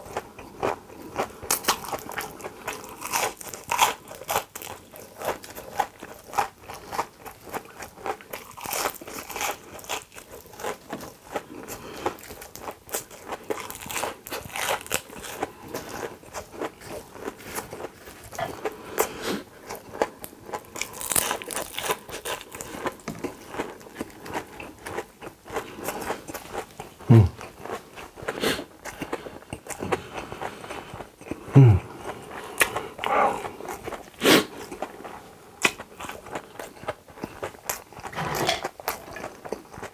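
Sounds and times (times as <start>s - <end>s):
crunching fried shrimp: 0.0s - 39.9s.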